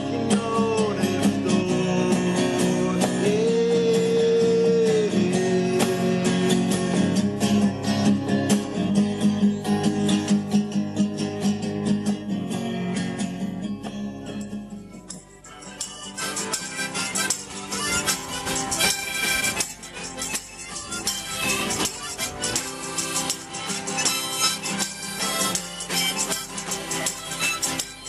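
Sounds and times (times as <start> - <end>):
held guitar melody note: 0.0 - 28.0
strummed acoustic guitar: 0.0 - 28.0.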